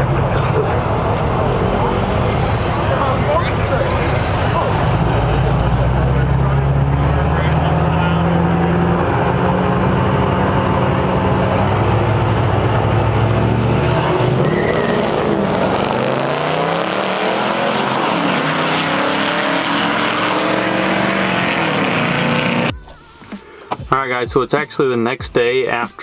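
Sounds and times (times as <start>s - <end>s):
diesel truck engine revving: 0.0s - 23.0s.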